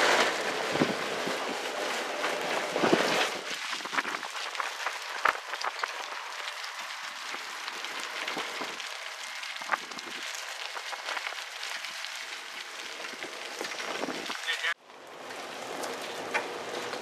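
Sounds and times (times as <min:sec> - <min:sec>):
vehicle wind and road noise: 0:00.0 - 0:17.0.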